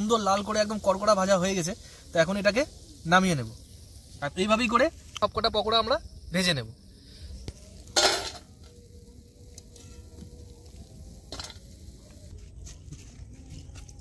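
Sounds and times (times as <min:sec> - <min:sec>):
batter sizzling in hot oil: 0:00.0 - 0:12.3.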